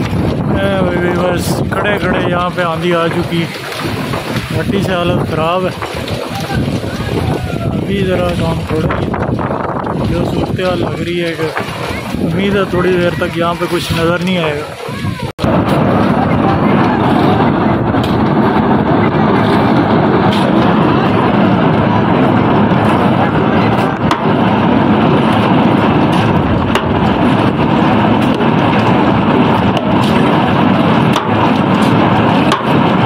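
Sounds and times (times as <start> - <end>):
pipe-spinning machine rumbling: 0.0 - 33.0.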